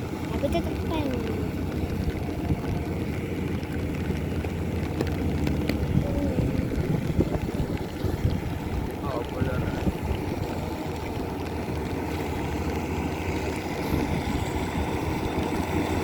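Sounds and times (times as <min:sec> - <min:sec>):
harvester engine rumbling: 0:00.0 - 0:16.0.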